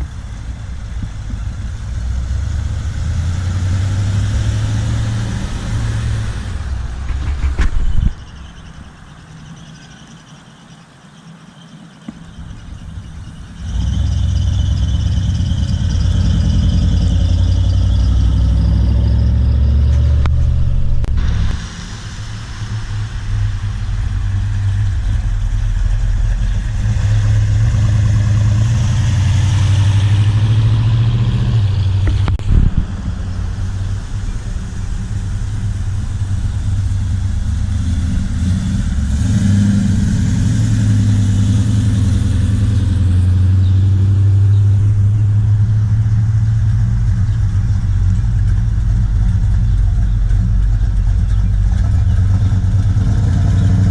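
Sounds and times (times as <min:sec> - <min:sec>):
car engines rumbling and revving: 0:00.0 - 0:53.9.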